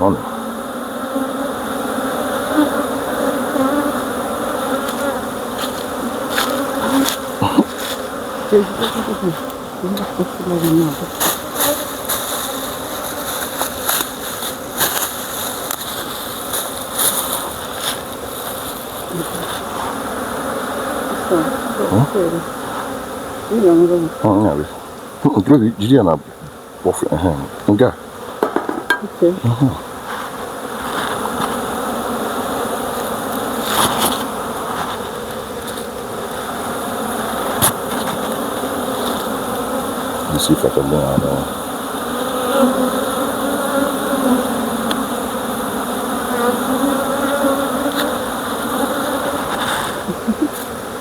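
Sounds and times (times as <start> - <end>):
honeybees buzzing: 0.0 - 51.0.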